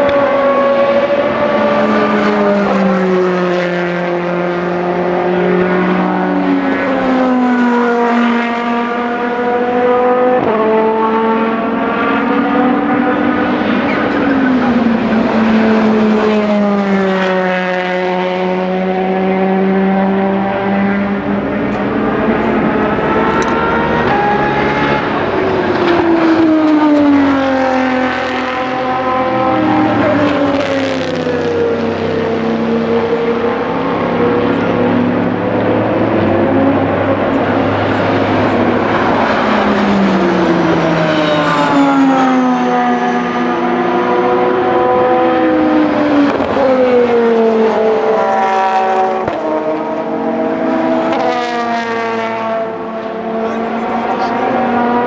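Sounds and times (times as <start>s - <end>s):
race cars passing at speed: 0.0s - 55.0s.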